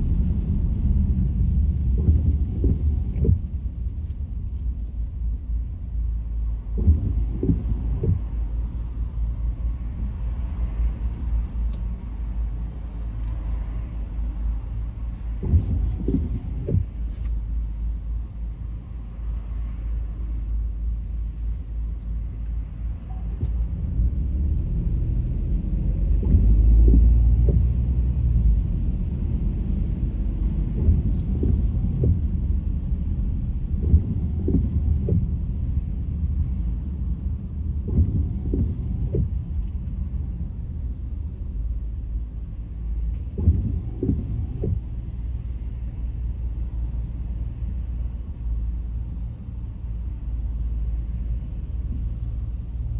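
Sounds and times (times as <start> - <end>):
car road and engine rumble: 0.0 - 52.9.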